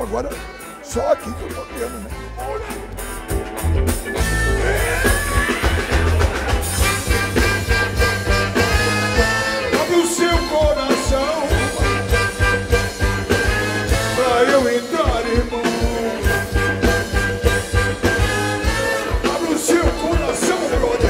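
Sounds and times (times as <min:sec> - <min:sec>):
horn section: 0:00.0 - 0:21.0
live funk band playing: 0:00.0 - 0:21.0.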